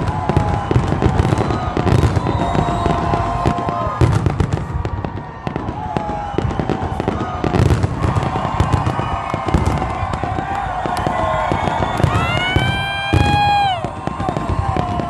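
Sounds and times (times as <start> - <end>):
fireworks bangs and crackles: 0.0 - 15.0
rising firework whistle: 0.0 - 15.0.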